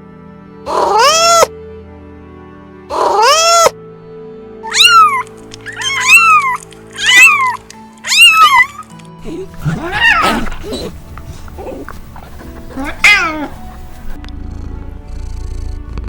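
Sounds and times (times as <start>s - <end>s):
soft background music: 0.0s - 16.0s
cat meowing: 0.7s - 1.5s, 2.9s - 3.7s, 4.6s - 15.9s.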